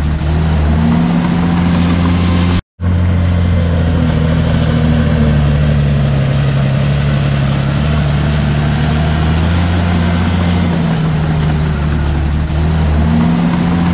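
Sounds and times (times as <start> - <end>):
heavy diesel engine running: 0.0 - 13.9.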